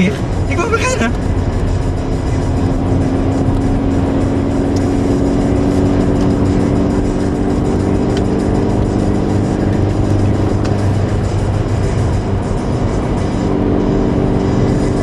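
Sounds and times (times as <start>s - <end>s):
car engine drone: 0.0s - 15.0s
road and tyre noise: 0.0s - 15.0s.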